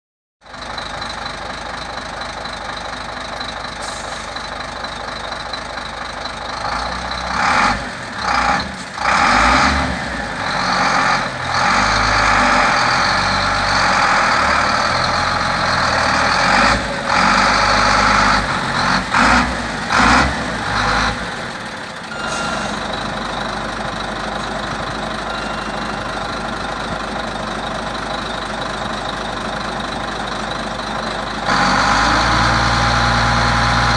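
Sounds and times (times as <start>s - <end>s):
diesel truck engine idling and revving: 0.4s - 33.9s.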